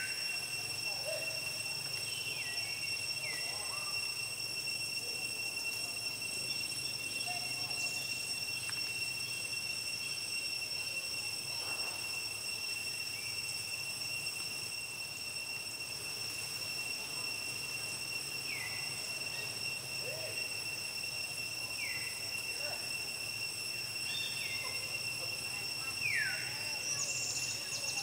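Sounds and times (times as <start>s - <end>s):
high-pitched insect drone: 0.0s - 28.0s
short descending insect calls: 0.0s - 28.0s.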